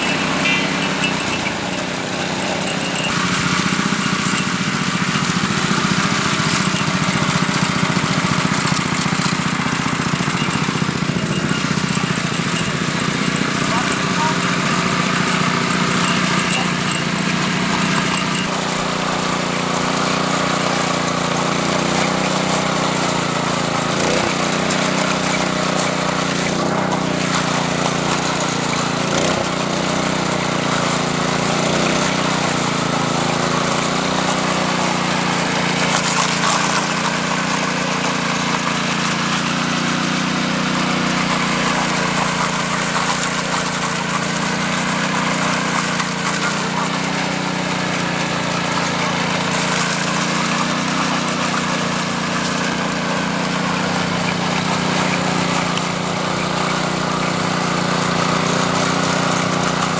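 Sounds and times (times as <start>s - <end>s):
power trowel engine running: 0.0s - 59.9s.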